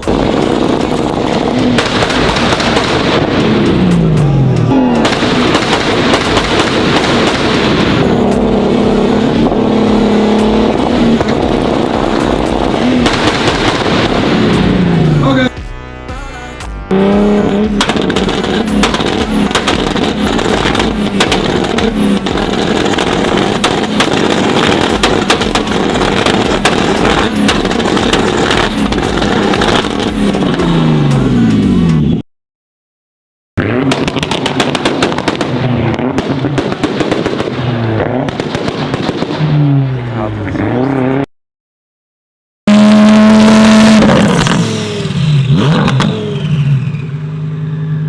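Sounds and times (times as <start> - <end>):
exhaust crackling and popping: 0.0 - 15.6, 16.8 - 32.2, 33.6 - 40.9, 42.7 - 46.9
sports car engine revving: 0.0 - 32.2, 33.6 - 41.3, 42.7 - 48.0.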